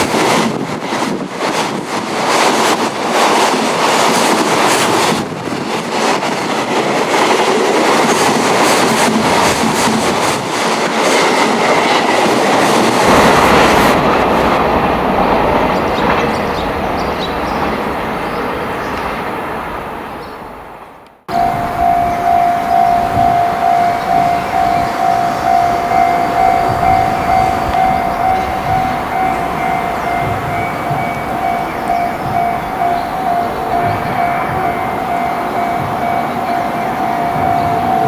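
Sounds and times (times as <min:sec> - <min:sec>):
train wheels clattering: 0:00.0 - 0:20.4, 0:21.3 - 0:38.0.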